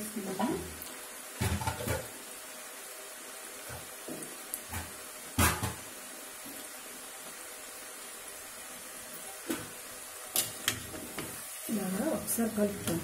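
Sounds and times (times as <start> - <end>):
dough deep-frying in hot oil: 0.0 - 13.0.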